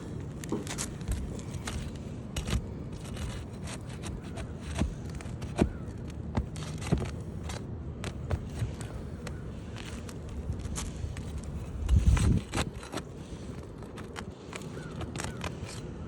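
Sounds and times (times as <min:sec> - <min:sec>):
scraping and clicks on shingles: 0:00.0 - 0:16.0.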